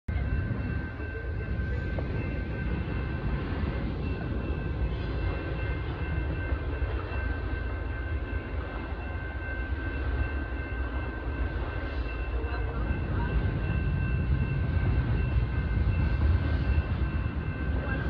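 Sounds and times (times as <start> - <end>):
freight train rumbling on rails: 0.1 - 18.0.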